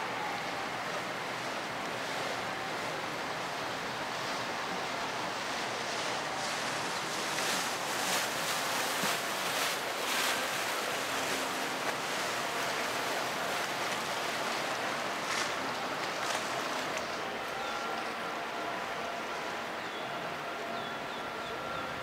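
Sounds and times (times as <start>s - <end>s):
river water splashing: 0.0s - 22.0s.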